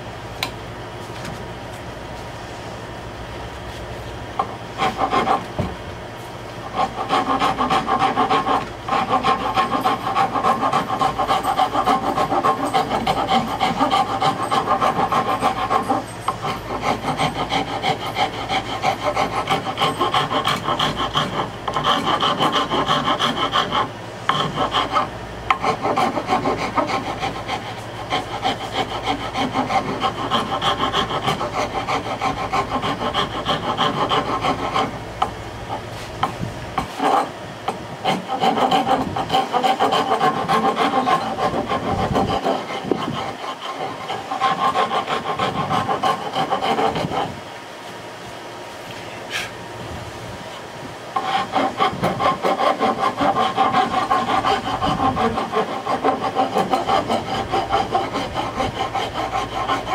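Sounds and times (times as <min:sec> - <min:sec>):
metal file rasping on wood: 0:04.4 - 0:05.6, 0:06.6 - 0:47.4, 0:51.2 - 0:59.9.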